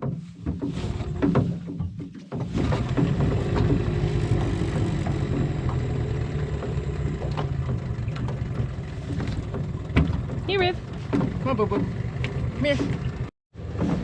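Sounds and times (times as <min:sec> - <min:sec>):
outboard motor idling: 0:02.5 - 0:13.7.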